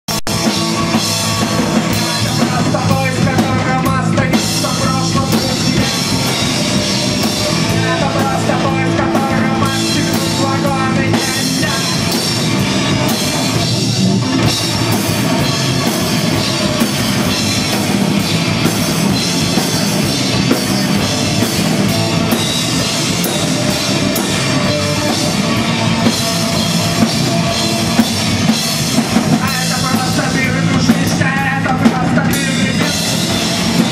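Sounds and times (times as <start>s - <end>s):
distorted electric guitars: 0.1s - 33.9s
drum kit: 0.1s - 33.9s.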